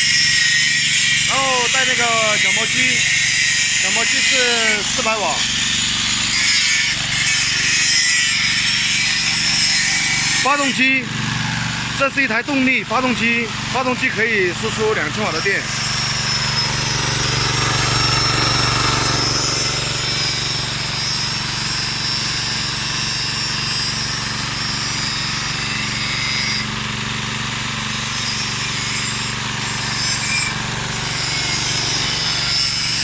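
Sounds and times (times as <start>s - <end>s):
power tool rasping: 0.0s - 11.3s, 13.6s - 26.7s, 27.9s - 33.0s
generator engine droning: 1.2s - 7.7s, 9.2s - 33.0s.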